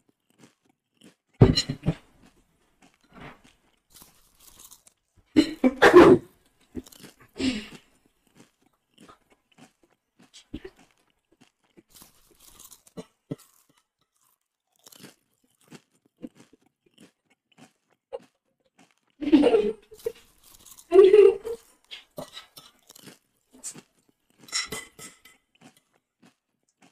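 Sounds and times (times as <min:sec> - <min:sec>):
chewing and crunching: 0:00.0 - 0:26.9.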